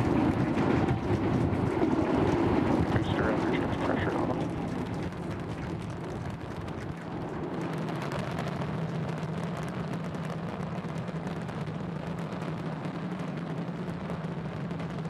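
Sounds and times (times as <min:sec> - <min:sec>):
rocket engine drone with crackle: 0:00.0 - 0:15.0.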